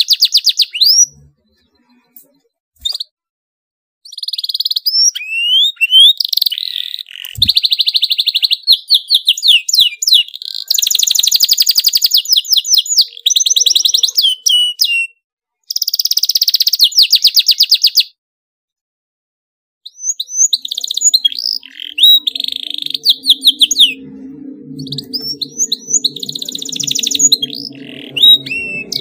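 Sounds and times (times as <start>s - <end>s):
canary singing trills: 0.0s - 3.1s, 4.0s - 18.1s, 19.9s - 29.0s.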